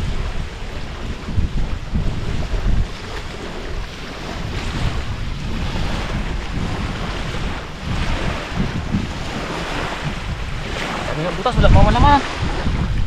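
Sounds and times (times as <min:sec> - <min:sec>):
rush of wind: 0:00.0 - 0:13.0
surf: 0:00.0 - 0:13.0
wind buffeting microphone: 0:00.0 - 0:13.0.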